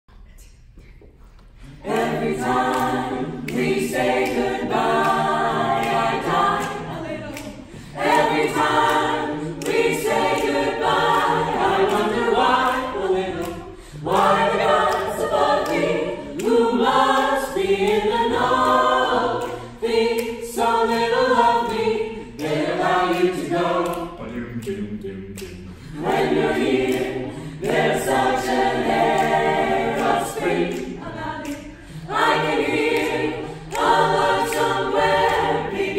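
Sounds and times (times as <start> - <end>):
vocal ensemble singing a cappella: 0.3 - 35.9.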